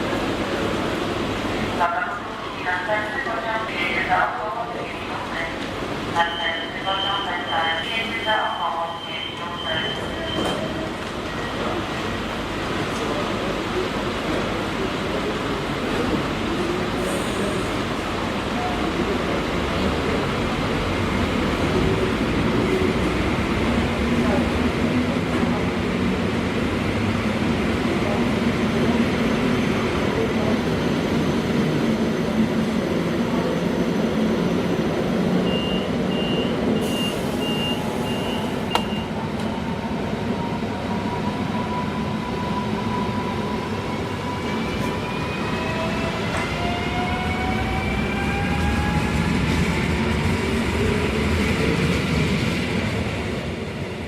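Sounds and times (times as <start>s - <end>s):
rumble of trains: 0.0s - 54.0s.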